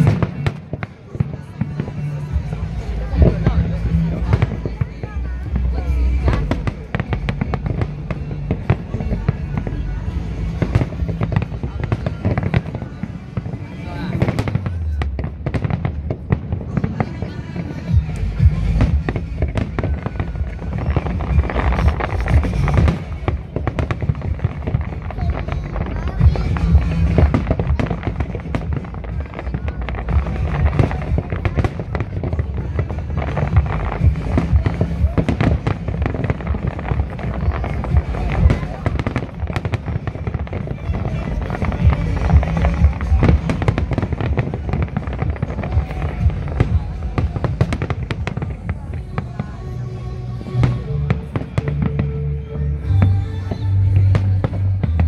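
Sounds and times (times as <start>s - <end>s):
fireworks bangs and crackles: 0.0s - 55.0s
music playing: 0.0s - 55.0s
deep low rumble: 1.4s - 55.0s.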